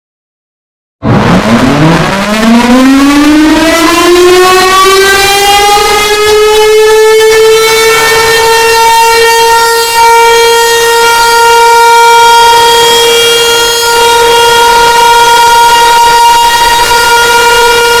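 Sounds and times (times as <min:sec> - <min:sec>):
steady alarm tone: 0:01.0 - 0:18.0.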